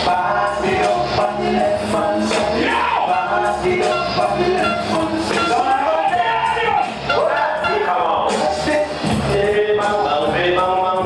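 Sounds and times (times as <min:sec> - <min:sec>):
music over sound system: 0:00.0 - 0:11.0
vocal over music: 0:00.0 - 0:11.0.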